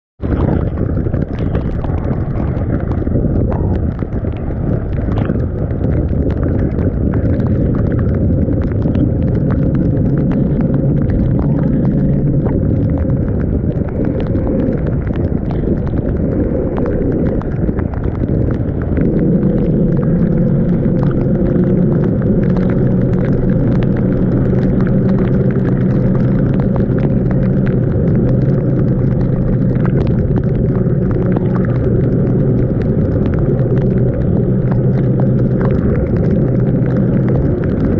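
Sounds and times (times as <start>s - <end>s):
wind rumble on microphone: 0.2s - 37.9s.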